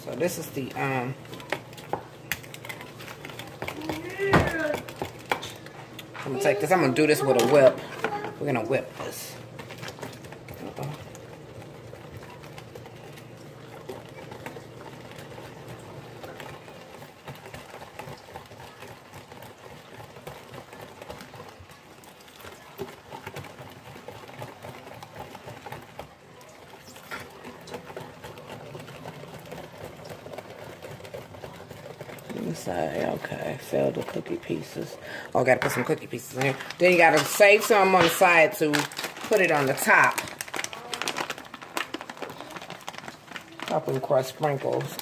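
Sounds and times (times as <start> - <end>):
whisk clattering against bowl: 0.0 - 45.0.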